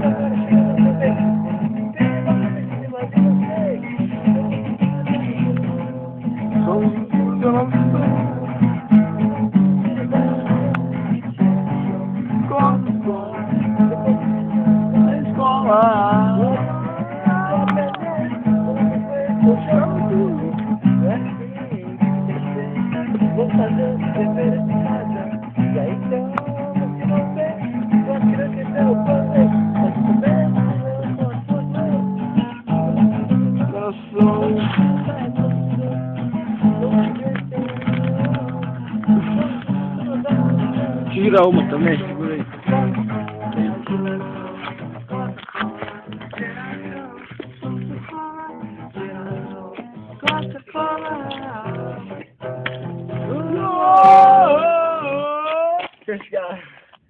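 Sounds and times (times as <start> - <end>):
acoustic guitar strumming chords: 0.0 - 55.9
man singing: 0.0 - 56.7.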